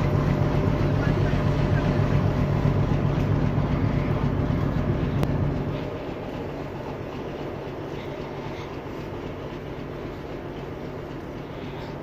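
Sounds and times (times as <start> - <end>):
diesel locomotive engine hum: 0.0 - 12.0.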